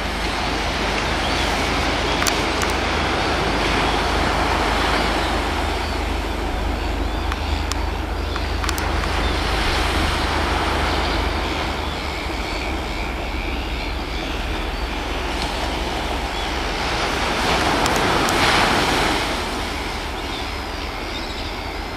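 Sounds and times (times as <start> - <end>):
distant train drone: 0.0 - 21.9
wind buffeting microphone: 0.0 - 21.9.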